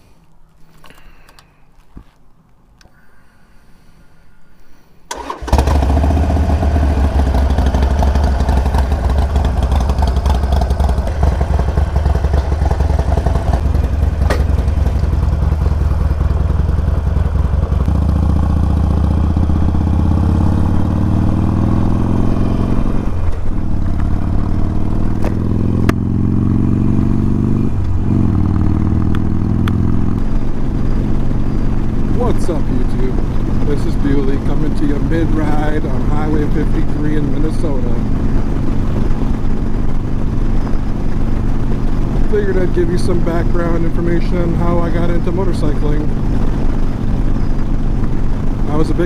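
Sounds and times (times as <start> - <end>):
motorcycle engine accelerating: 5.1 - 49.0.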